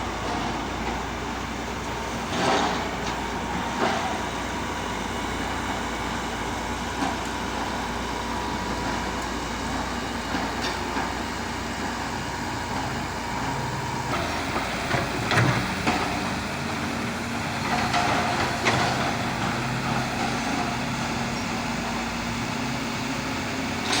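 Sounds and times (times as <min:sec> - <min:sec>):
diesel machinery running: 0:00.0 - 0:24.0.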